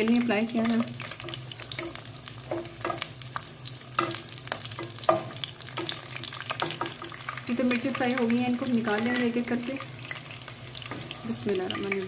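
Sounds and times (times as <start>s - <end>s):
chillies frying in oil: 0.0s - 12.0s
spatula stirring in pan: 0.6s - 12.0s.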